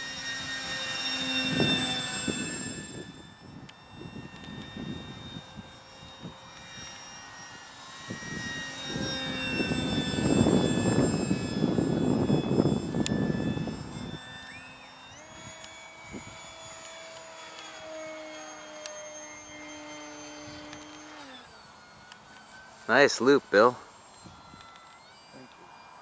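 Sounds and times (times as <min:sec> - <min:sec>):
electric motor and propeller whine: 0:00.0 - 0:26.0.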